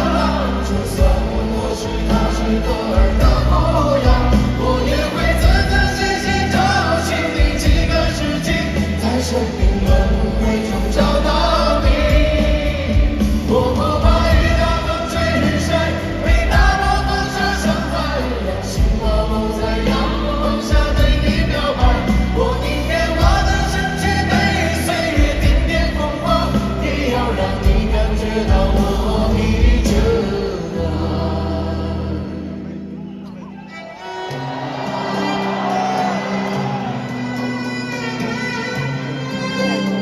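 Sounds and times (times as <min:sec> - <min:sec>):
heavy bass: 0:00.0 - 0:32.2
choir-like singing: 0:00.0 - 0:40.0
live band music: 0:00.0 - 0:40.0.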